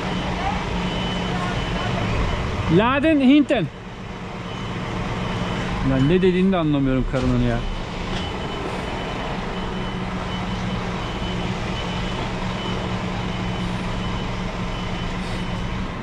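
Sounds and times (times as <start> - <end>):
diesel truck engine running: 0.0 - 16.0
reversing alarm beeping: 0.0 - 16.0.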